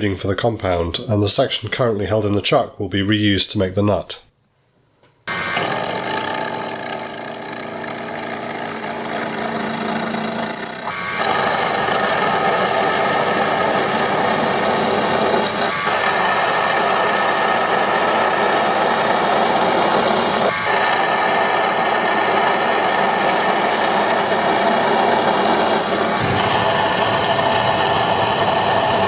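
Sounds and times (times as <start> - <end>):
high thin whine: 5.3 - 29.0
lathe turning a metal shaft: 5.3 - 29.0.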